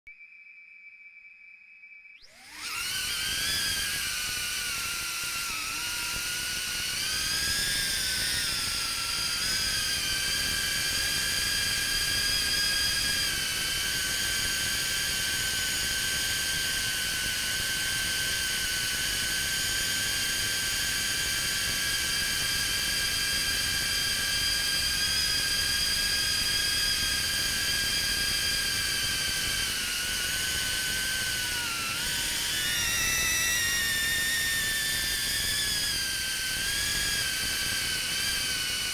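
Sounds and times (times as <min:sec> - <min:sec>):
drone motors whining: 0:02.0 - 0:38.9.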